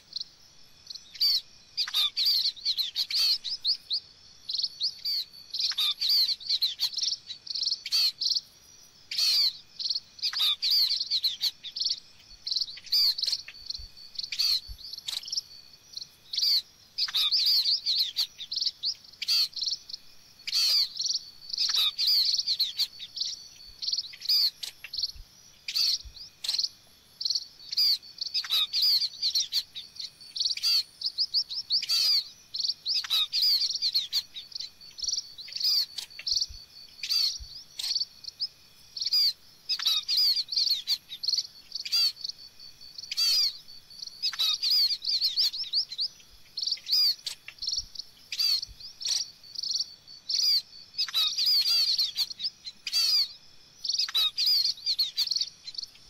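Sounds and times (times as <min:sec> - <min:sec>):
small finches chirping: 0:00.0 - 0:56.0.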